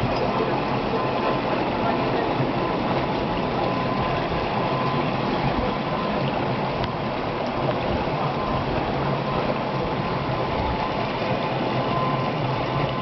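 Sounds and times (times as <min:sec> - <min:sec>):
low engine-like hum: 0:00.0 - 0:13.0
rushing water: 0:00.0 - 0:13.0.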